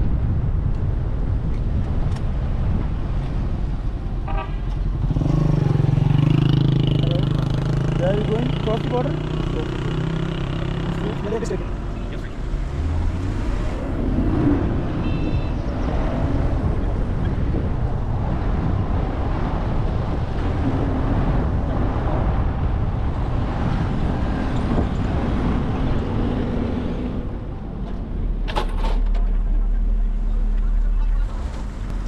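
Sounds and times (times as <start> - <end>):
wind buffeting microphone: 0.0 - 29.9
engine and road rumble: 0.0 - 32.0.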